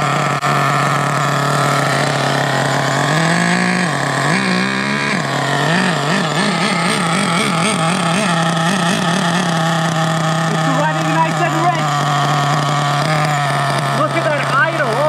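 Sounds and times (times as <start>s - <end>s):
model engine idling and revving: 0.0s - 15.0s.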